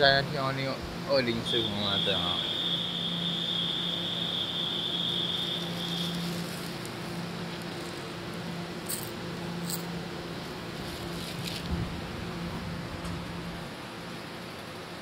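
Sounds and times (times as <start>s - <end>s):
train high-pitched whine: 0.0s - 14.9s
low steady hum: 0.0s - 15.0s.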